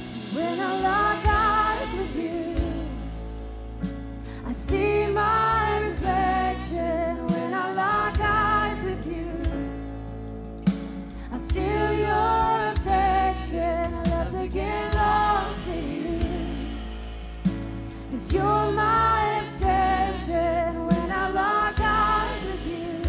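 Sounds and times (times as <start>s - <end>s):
woman singing: 0.0s - 3.3s, 4.4s - 9.8s, 11.3s - 17.0s, 18.1s - 23.0s
worship band playing slow song: 0.0s - 23.0s.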